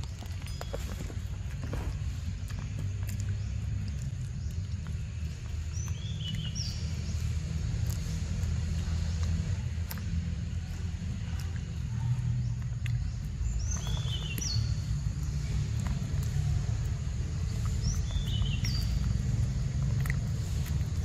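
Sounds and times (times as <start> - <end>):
monkey chewing wet clicks: 0.0 - 21.0
steady low rumble: 0.0 - 21.0.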